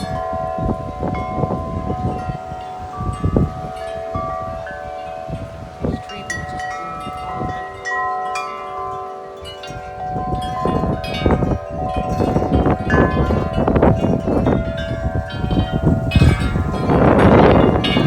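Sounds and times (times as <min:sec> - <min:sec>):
wind chimes clanging: 0:00.0 - 0:18.0
wind gust on microphone: 0:00.0 - 0:18.0.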